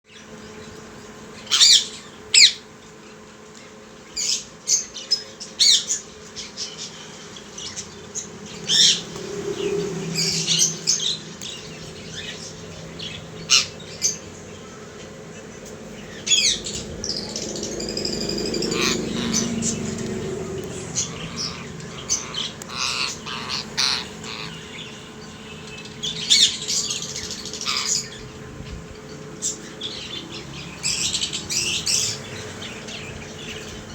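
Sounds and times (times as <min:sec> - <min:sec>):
parakeets squawking: 0:01.3 - 0:02.7, 0:04.2 - 0:33.9.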